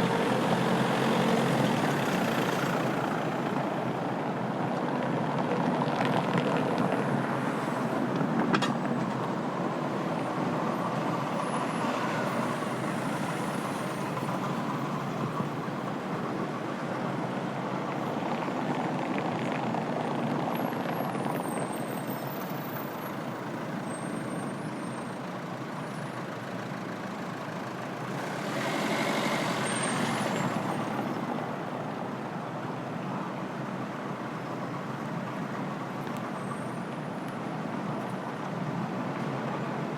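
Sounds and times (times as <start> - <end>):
city street traffic: 0.0 - 39.9.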